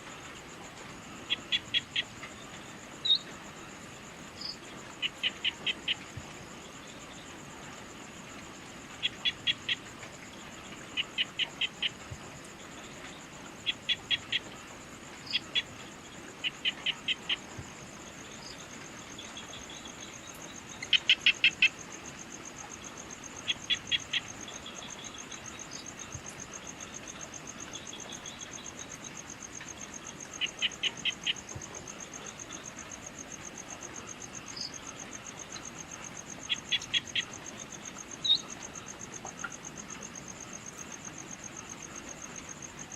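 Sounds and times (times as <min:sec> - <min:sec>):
rapid insect chirps: 0:00.0 - 0:42.9.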